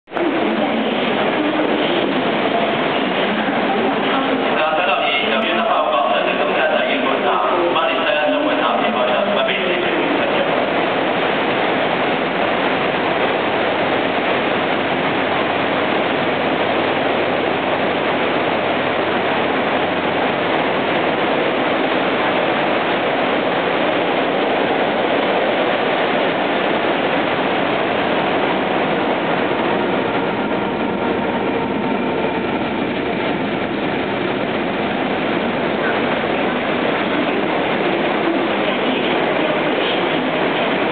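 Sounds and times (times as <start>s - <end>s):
diesel locomotive engine: 0.0s - 40.9s
rushing rail noise: 0.0s - 40.9s.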